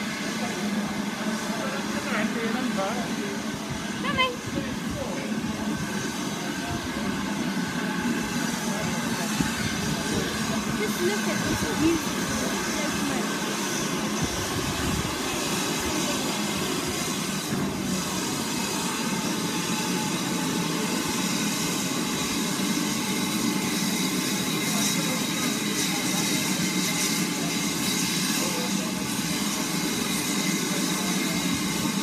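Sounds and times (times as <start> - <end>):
steam hissing from locomotive: 0.0 - 32.0.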